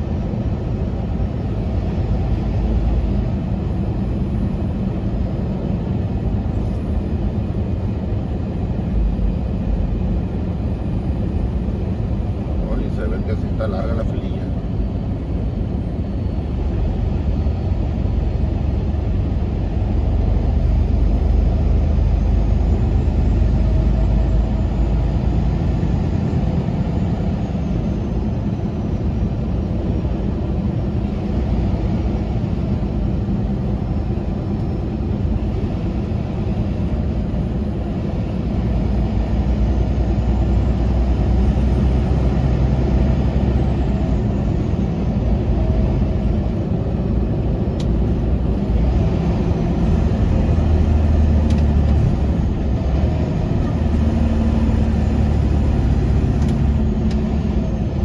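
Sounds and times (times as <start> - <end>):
diesel truck engine and road rumble: 0.0 - 58.0.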